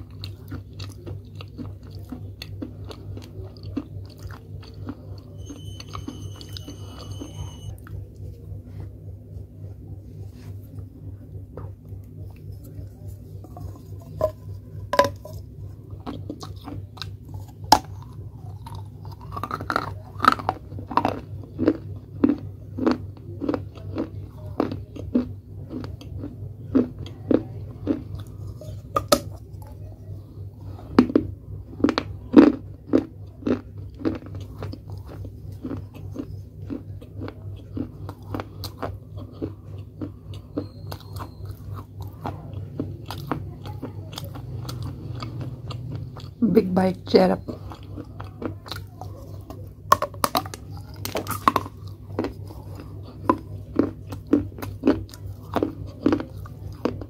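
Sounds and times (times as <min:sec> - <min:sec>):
clay pot being bitten and chewed: 0:00.0 - 0:57.0.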